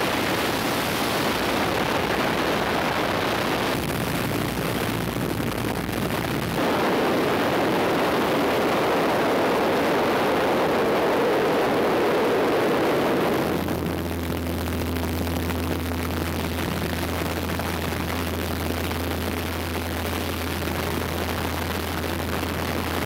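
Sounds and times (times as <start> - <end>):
plane engine drone: 0.0 - 20.4
rushing air in plane cabin: 0.0 - 23.0.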